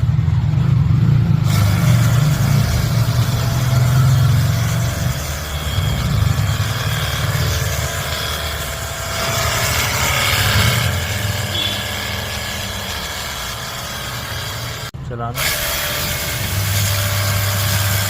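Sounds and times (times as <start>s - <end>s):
pump motor humming: 1.4s - 18.0s
water jet spraying: 1.4s - 18.0s.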